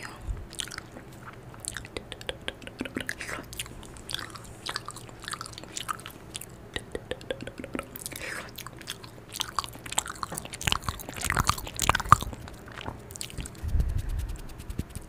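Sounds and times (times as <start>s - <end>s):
pretend chewing and biting: 0.0s - 15.0s
wet mouth clicks and smacks: 0.0s - 15.0s.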